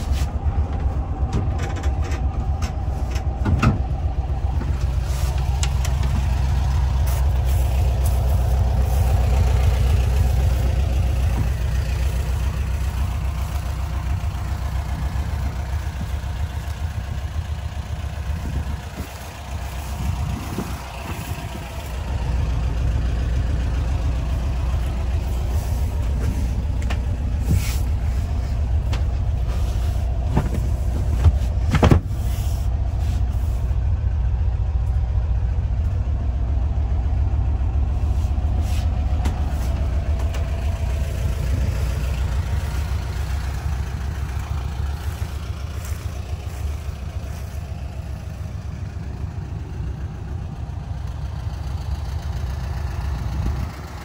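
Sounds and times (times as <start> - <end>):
van engine idling: 0.0 - 54.0.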